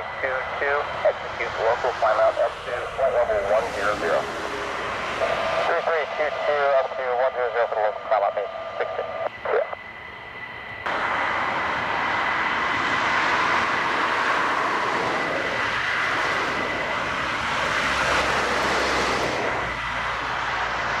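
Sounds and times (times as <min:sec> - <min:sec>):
jet engines idling: 0:00.0 - 0:21.0.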